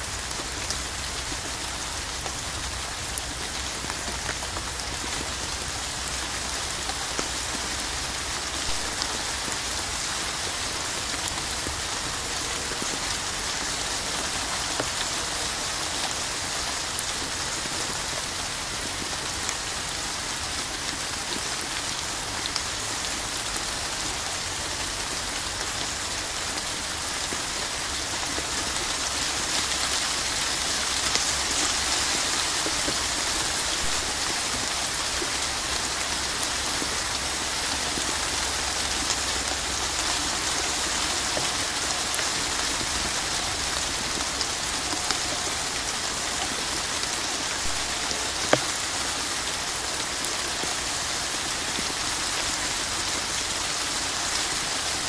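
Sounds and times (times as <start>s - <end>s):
steady rain hiss: 0.0s - 55.0s
raindrop ticks: 0.1s - 50.7s.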